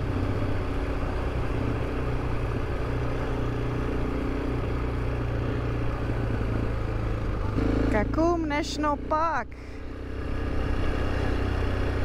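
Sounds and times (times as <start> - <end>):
motorcycle engine cruising: 0.0 - 12.0
road noise: 0.0 - 12.0.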